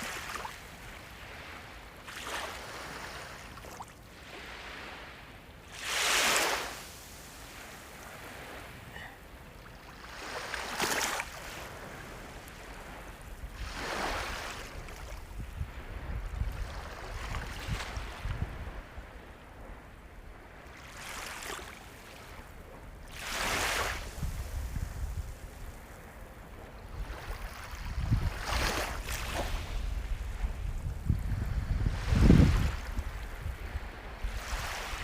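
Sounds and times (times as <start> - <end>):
low rumble of sea: 0.0 - 35.0
waves breaking on shore: 0.0 - 35.0.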